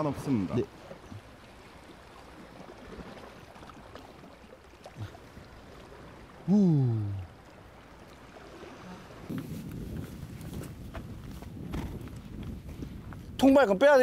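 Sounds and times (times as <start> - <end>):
sea and wind hiss: 0.0 - 14.0.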